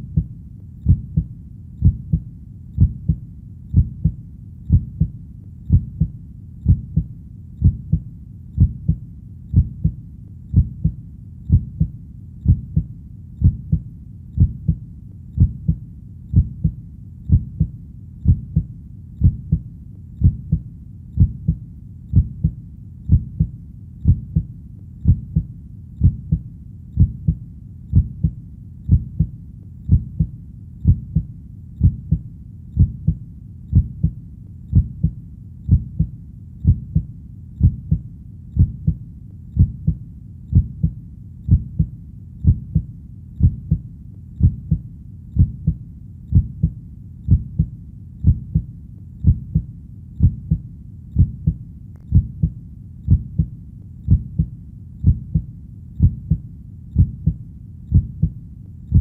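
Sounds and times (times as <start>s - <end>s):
heartbeat thumps: 0.0s - 59.0s.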